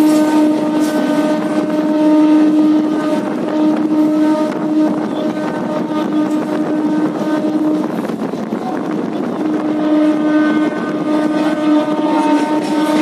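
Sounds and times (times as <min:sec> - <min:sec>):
humming tone: 0:00.0 - 0:13.0
train rumble: 0:00.0 - 0:13.0.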